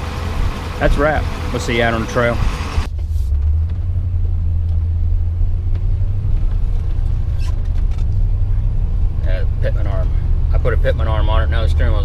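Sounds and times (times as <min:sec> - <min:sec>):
engine rumble: 0:00.0 - 0:12.0
road noise: 0:00.0 - 0:12.0.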